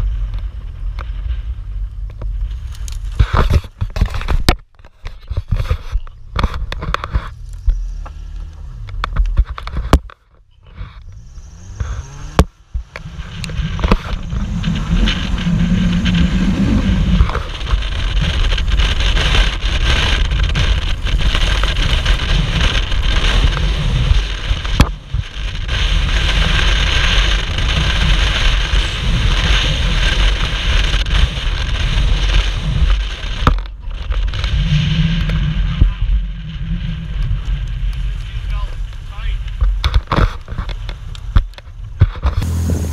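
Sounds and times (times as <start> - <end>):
tyres on rough grass: 0.0 - 35.9
car engine driving: 0.0 - 42.9.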